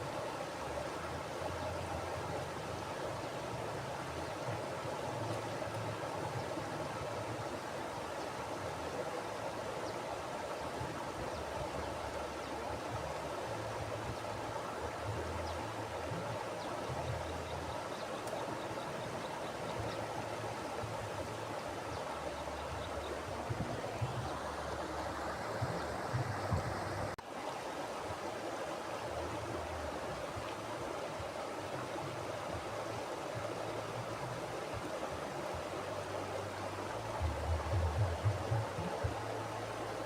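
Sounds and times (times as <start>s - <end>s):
river flowing over rocks: 0.0s - 40.0s.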